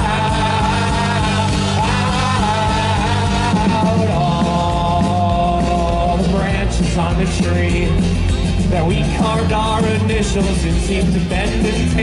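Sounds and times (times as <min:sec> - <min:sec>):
drums: 0:00.0 - 0:12.0
electric and acoustic guitars: 0:00.0 - 0:12.0
held melody line: 0:00.0 - 0:12.0.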